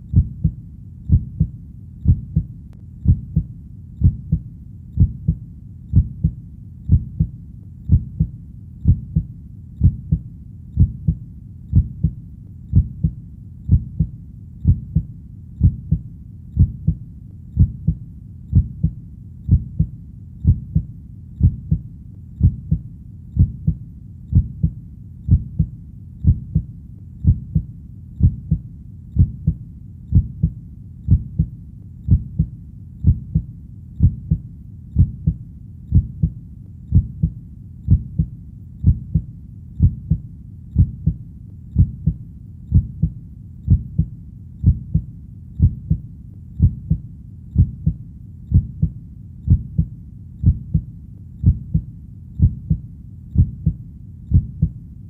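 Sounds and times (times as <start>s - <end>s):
heartbeat thumping: 0.0s - 54.8s.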